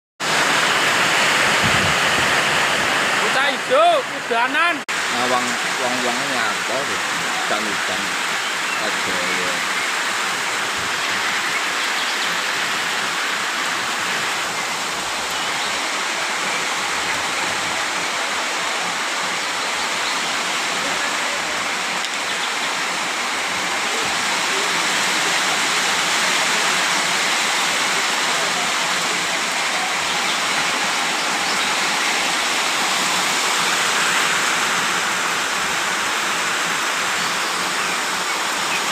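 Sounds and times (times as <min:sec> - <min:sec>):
steady rain: 0:00.2 - 0:38.9.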